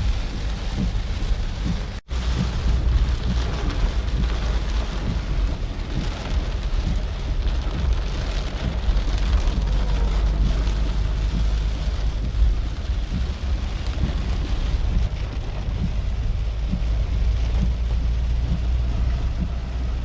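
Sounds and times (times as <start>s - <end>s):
deep rumble: 0.0s - 20.0s
heavy rain falling: 0.0s - 20.0s.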